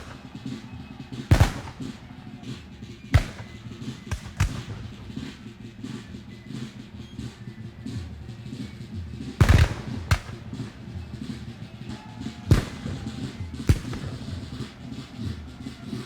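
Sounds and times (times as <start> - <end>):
gunshots: 0.0 - 6.6, 9.4 - 16.0
low rumble of battle ambience: 0.0 - 15.7.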